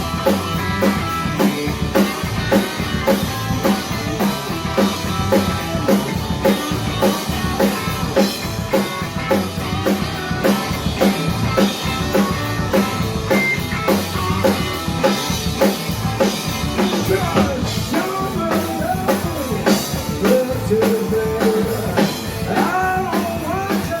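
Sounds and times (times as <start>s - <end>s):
blues rock band playing: 0.0s - 24.0s
drum kit steady beat: 0.0s - 24.0s
electric guitar lead line bending: 0.0s - 24.0s.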